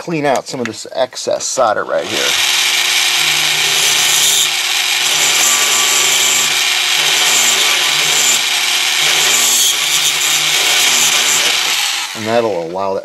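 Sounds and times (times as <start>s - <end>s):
rotary tool grinding metal: 1.9s - 12.7s.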